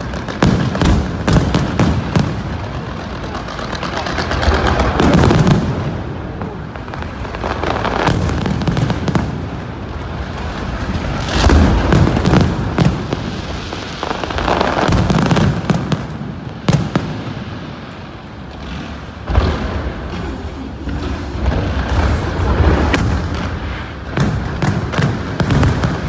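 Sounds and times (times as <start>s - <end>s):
fireworks booms and cracks: 0.0s - 26.0s.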